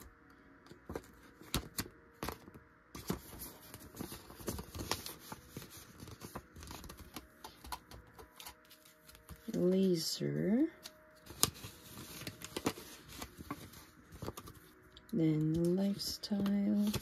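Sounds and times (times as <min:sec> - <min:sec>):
banknotes rustling: 0:00.7 - 0:17.0.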